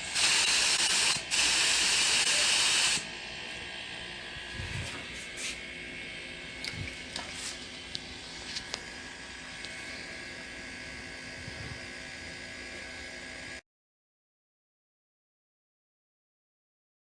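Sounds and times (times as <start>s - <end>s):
compressors droning with whine: 0.0s - 13.6s.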